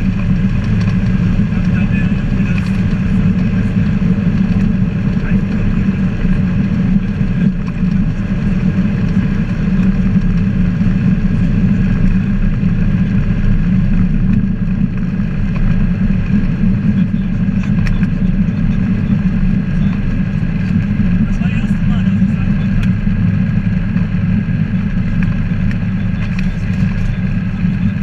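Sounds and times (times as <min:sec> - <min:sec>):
light aircraft engine and propeller: 0:00.0 - 0:28.0.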